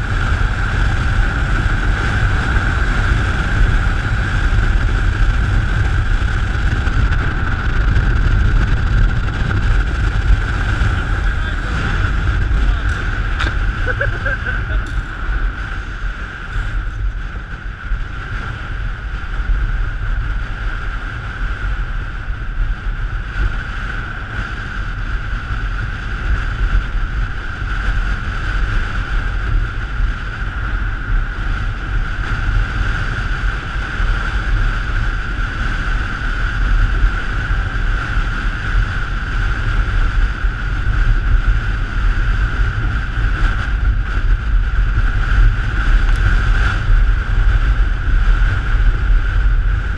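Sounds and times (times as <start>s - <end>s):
constant high hum: 0.0s - 49.9s
wind buffeting microphone: 0.0s - 49.9s.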